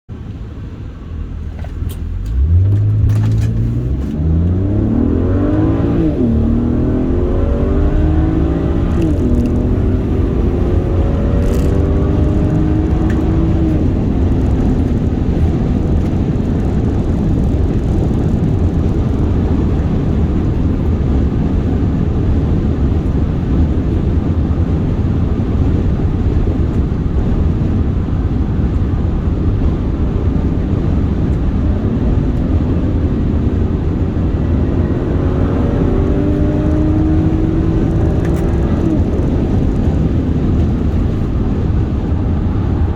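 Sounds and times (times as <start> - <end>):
car rushing at speed: 0.1 - 42.9
car engine accelerating: 0.2 - 42.9.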